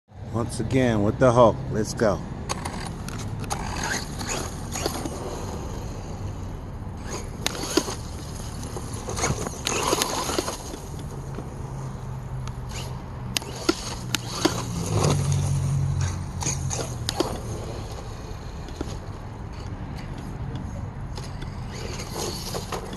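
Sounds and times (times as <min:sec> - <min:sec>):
toy truck knocking and scraping: 0:02.5 - 0:11.6, 0:12.4 - 0:22.9.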